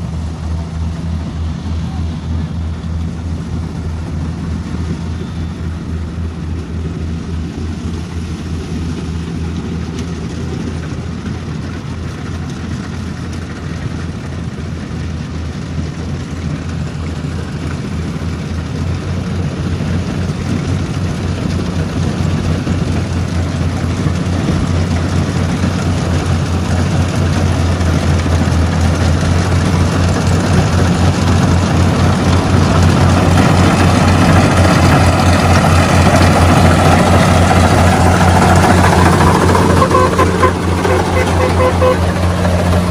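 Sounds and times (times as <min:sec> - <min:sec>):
combine harvester engine humming: 0:00.0 - 0:42.9.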